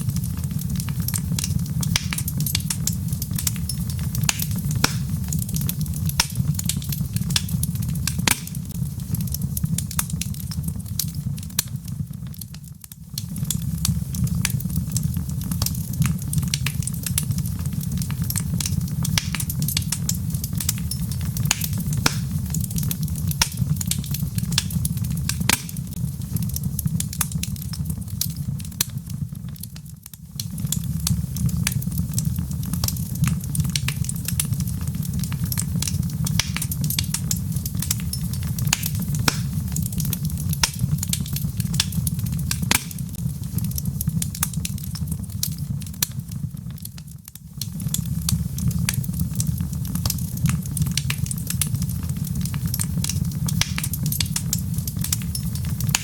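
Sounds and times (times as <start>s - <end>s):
log fire crackling: 0.0s - 56.0s.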